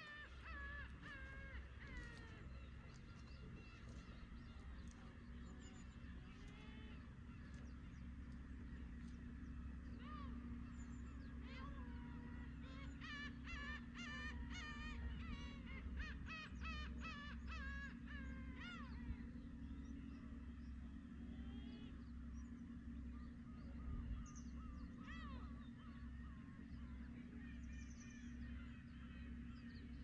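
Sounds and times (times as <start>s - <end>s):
gulls calling: 0.0s - 30.0s.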